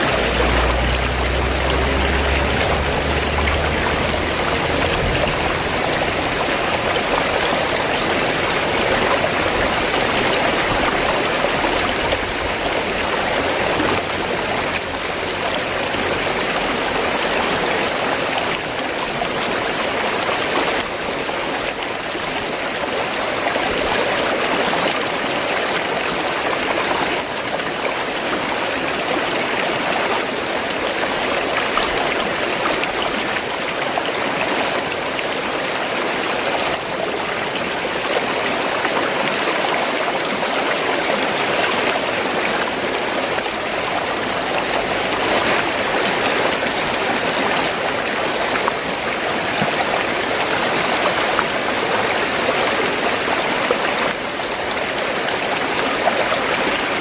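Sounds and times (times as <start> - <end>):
stream water rushing and gurgling: 0.0 - 57.0.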